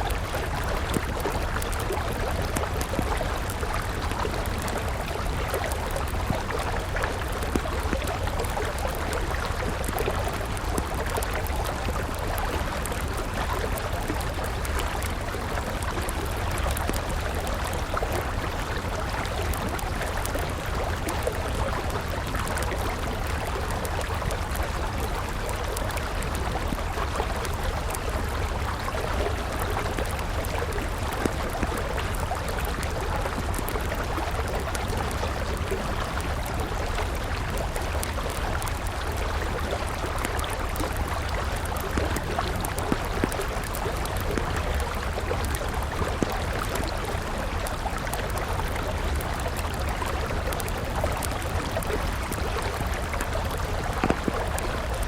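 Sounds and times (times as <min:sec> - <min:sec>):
campfire crackling and popping: 0:00.0 - 0:55.0
river water running: 0:00.0 - 0:55.0.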